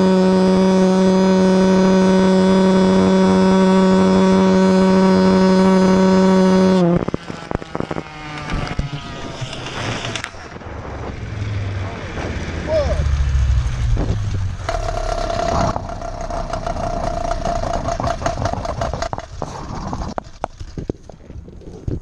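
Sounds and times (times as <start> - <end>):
two-stroke engine at high revs: 0.0 - 20.6
wind: 0.0 - 22.0.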